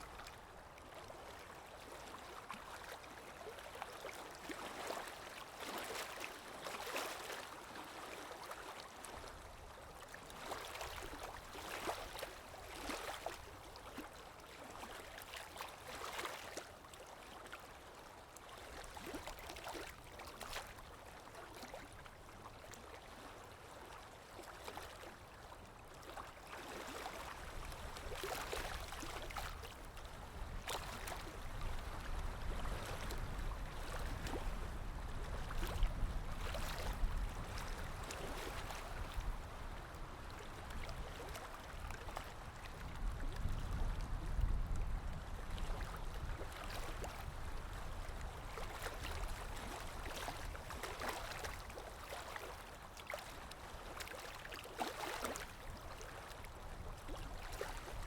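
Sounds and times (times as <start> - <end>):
water lapping and splashing: 0.0 - 58.0.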